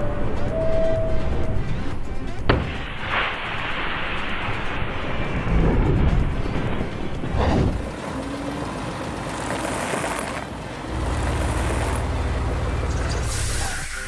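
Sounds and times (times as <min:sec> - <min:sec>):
diesel truck engine rumble: 0:00.0 - 0:14.0.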